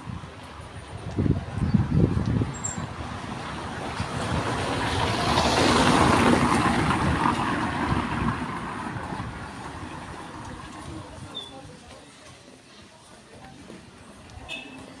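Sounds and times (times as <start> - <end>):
car passing on cobblestones: 0.0 - 15.0.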